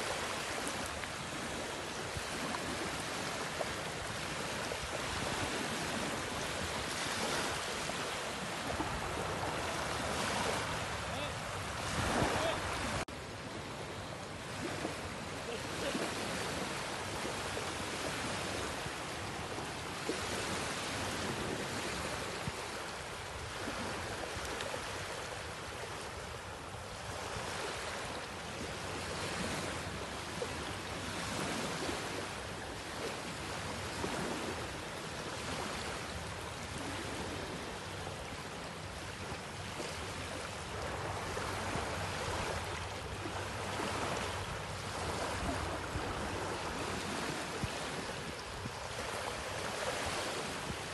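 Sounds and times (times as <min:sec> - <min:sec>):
sea waves washing on beach: 0:00.0 - 0:50.9.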